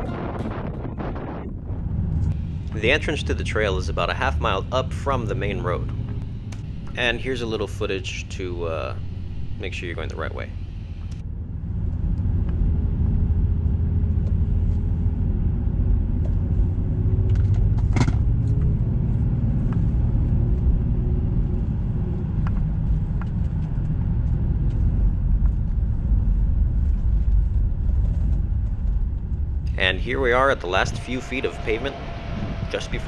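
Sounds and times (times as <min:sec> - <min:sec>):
road and engine rumble: 0:00.0 - 0:33.0.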